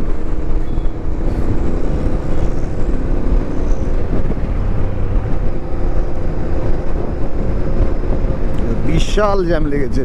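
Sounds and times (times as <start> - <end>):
motorcycle engine running: 0.0 - 8.9
road noise rushing: 0.0 - 10.0.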